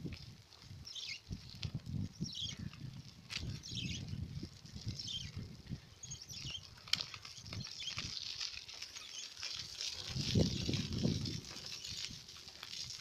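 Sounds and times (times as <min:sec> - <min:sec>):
wind buffeting microphone: 0:00.0 - 0:08.5, 0:09.6 - 0:13.0
bicycle rattles and ticks: 0:00.0 - 0:13.0.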